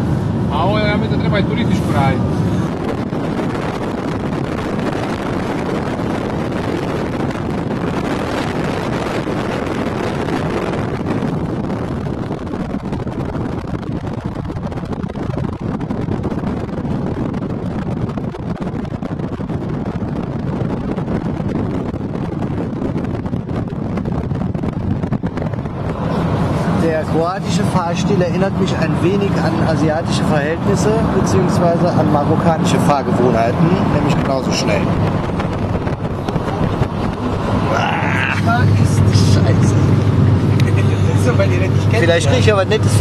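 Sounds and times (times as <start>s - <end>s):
car road and wind noise: 0.0s - 43.0s.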